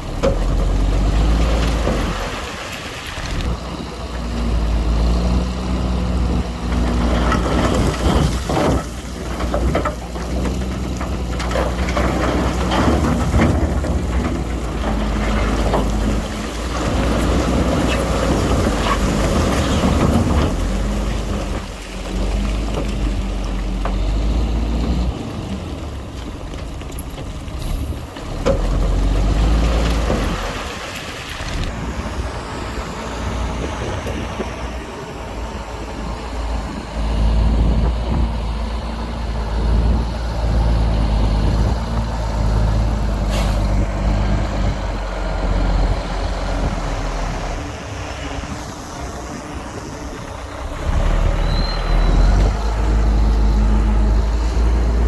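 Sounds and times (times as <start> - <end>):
heavy machine diesel engines: 0.0 - 55.0.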